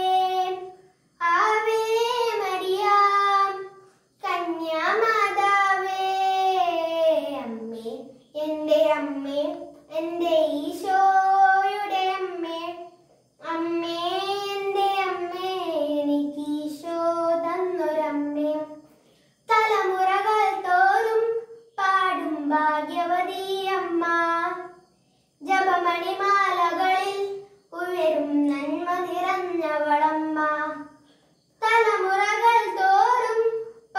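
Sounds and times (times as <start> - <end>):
boy singing a hymn: 0.0 - 18.8, 19.4 - 33.9.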